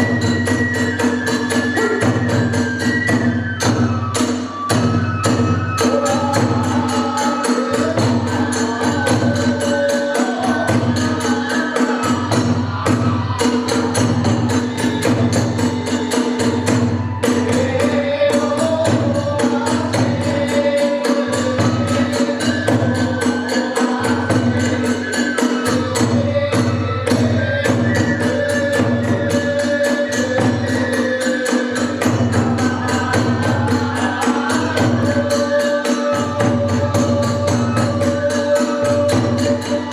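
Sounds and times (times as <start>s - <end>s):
hand cymbals clashing: 0.0s - 39.9s.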